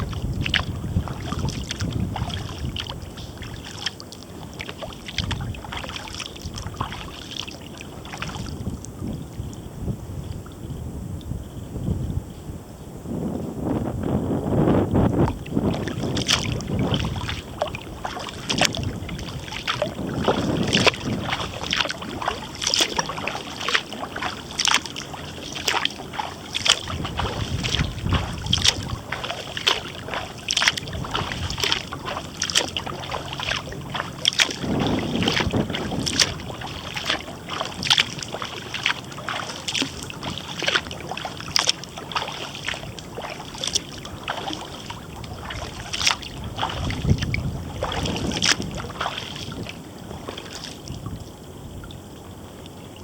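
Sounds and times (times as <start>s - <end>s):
water dripping off paddle: 0.0s - 9.6s, 14.9s - 52.0s
kayak paddle splashing: 0.0s - 10.7s, 14.1s - 53.0s
wind rumble on microphone: 0.0s - 53.0s.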